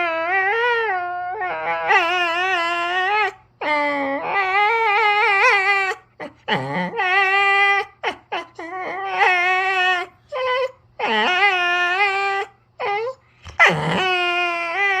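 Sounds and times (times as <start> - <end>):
dog whining and moaning: 0.0 - 15.0.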